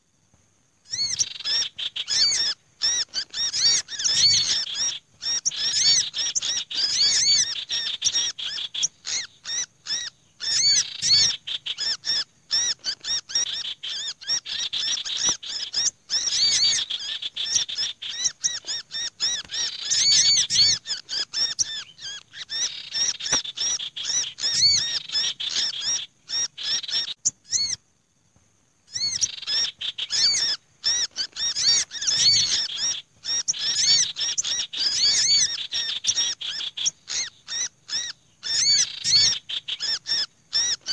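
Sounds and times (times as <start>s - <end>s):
rapid high bird chirps and trills: 0.8s - 27.9s, 28.8s - 40.9s
harsh bird chattering: 0.9s - 27.8s, 28.9s - 40.9s.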